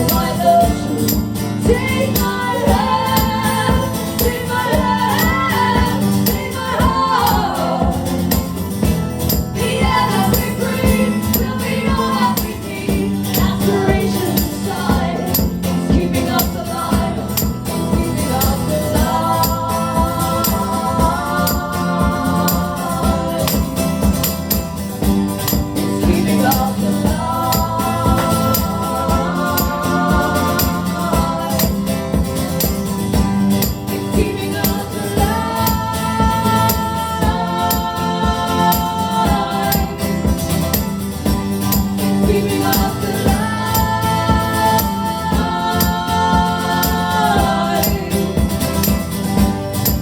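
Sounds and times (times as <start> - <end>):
band playing live: 0.0 - 50.0
tambourine: 0.0 - 50.0.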